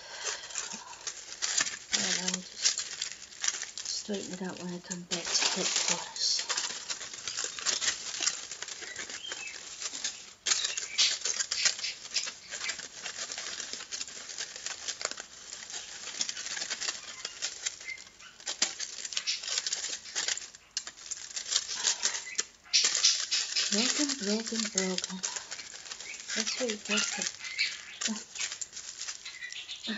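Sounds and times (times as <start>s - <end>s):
aluminium foil crinkling: 0.0s - 29.9s.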